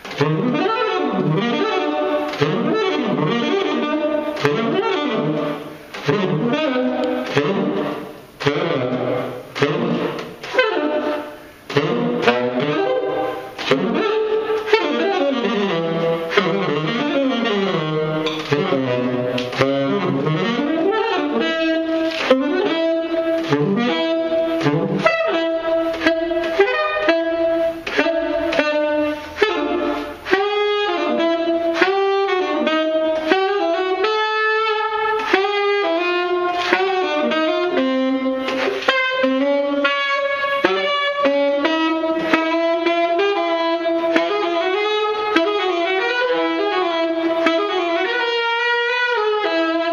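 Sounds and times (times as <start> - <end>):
solo saxophone improvising: 0.0 - 49.9.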